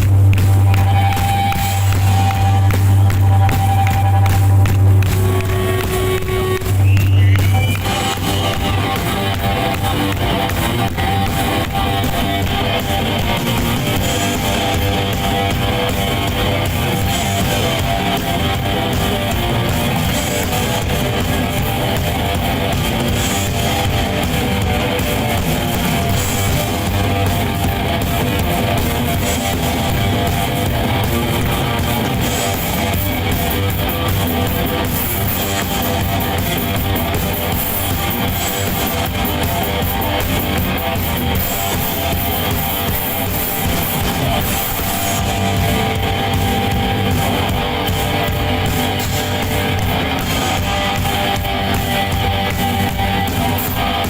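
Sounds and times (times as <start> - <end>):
live rock music: 0.0 - 54.0.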